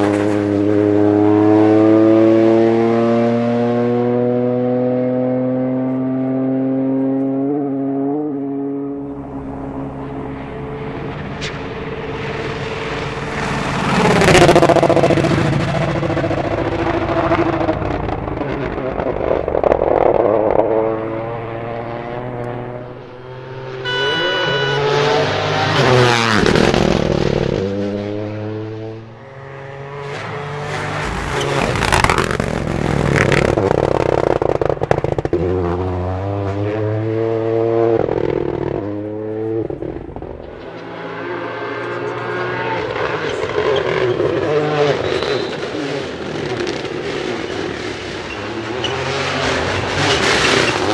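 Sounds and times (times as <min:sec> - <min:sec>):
rally car engine at full throttle: 0:00.0 - 0:50.9.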